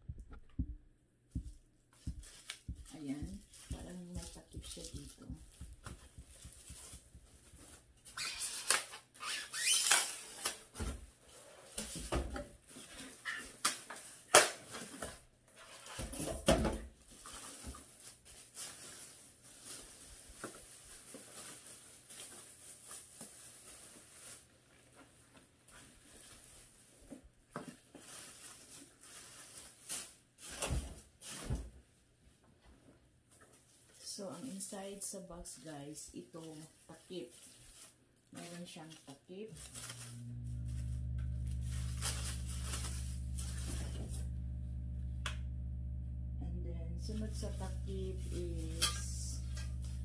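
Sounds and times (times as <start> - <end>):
plastic wrap crinkling: 0.2 - 16.2, 16.9 - 31.4, 33.4 - 50.0.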